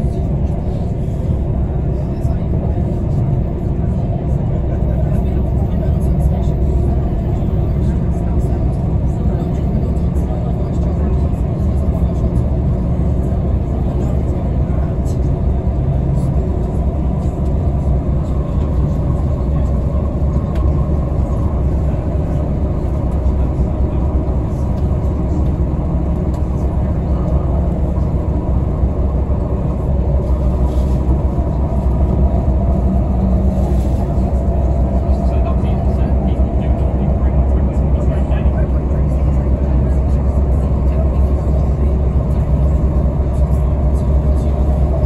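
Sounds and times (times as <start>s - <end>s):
train rumble from inside carriage: 0.0s - 45.0s.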